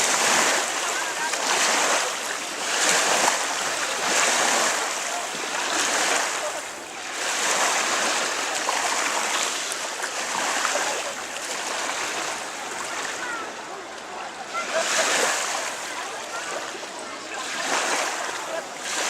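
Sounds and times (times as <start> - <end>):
small waves washing on shore: 0.0 - 19.0.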